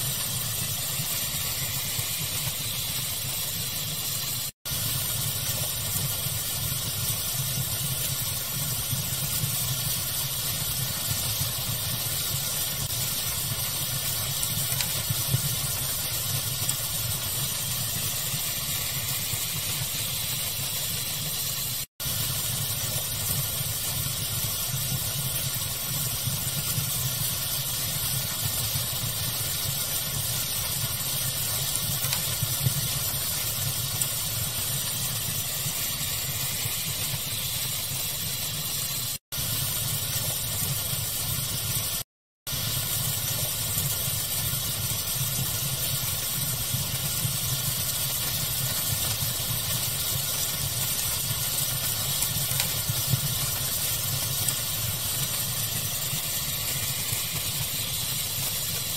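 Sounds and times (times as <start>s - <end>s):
fire crackling: 0.0s - 58.9s
steady hiss: 0.0s - 58.9s.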